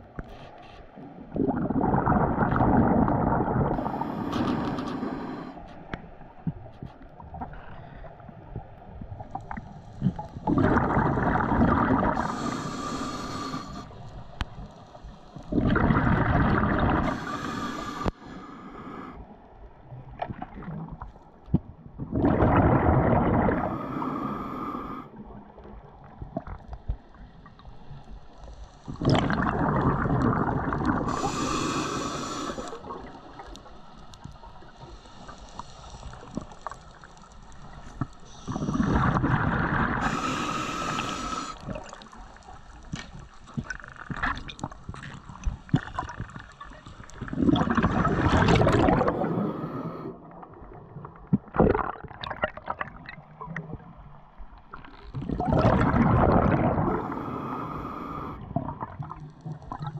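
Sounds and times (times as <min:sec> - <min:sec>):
faint underwater crackling: 0:00.0 - 0:59.9
underwater exhaled bubbles gurgling: 0:01.0 - 0:05.6, 0:06.3 - 0:19.2, 0:19.8 - 0:28.1, 0:28.8 - 0:59.9.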